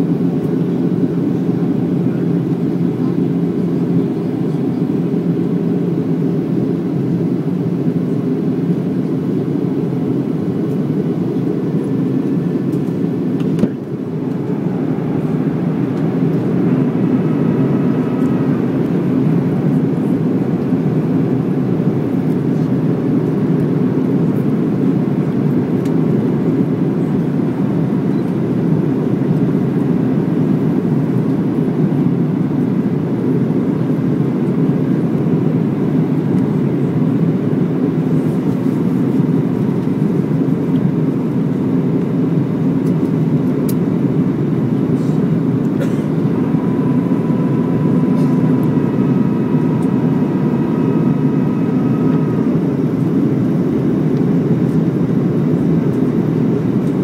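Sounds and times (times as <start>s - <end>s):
airplane cabin roar: 0.0s - 57.0s.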